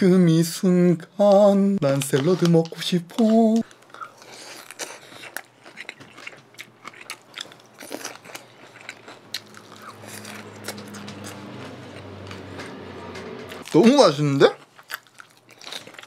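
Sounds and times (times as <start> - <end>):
crunching and chewing food: 1.9 - 16.0.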